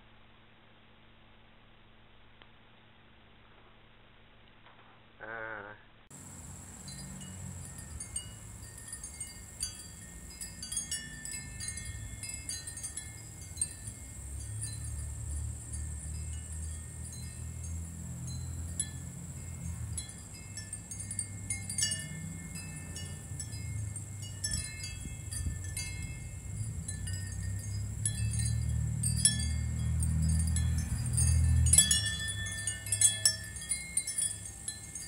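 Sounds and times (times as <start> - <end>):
low steady rumble: 5.9 - 35.0
small chimes tinkling: 6.2 - 35.0.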